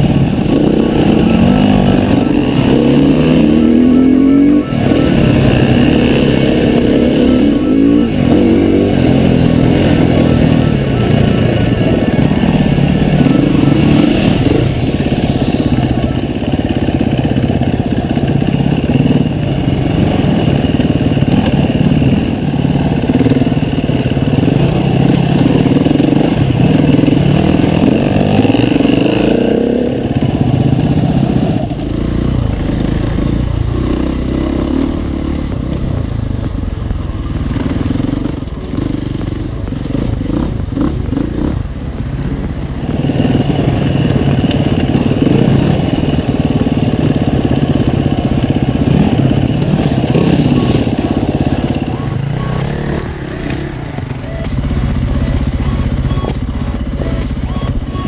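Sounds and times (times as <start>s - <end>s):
dirt bike engine revving: 0.0s - 36.7s, 42.7s - 58.0s.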